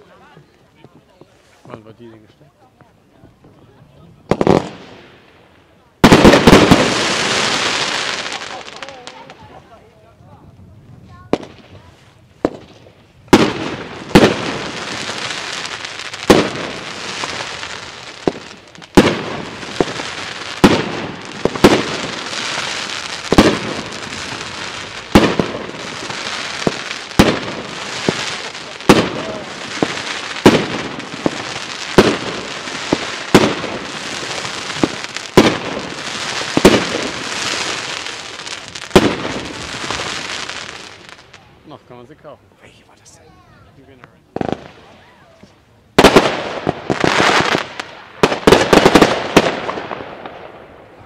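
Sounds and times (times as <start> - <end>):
firework stars crackling: 0.0 - 51.0
fireworks banging: 2.8 - 9.8, 11.0 - 41.8, 44.0 - 51.0.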